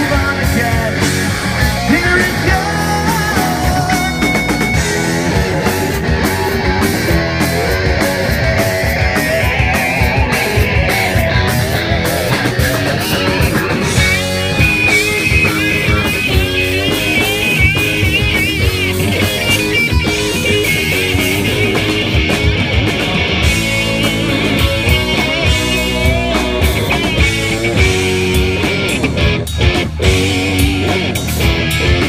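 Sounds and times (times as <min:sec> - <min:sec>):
bass and drums: 0:00.0 - 0:32.0
bending lead guitar line: 0:00.0 - 0:32.0.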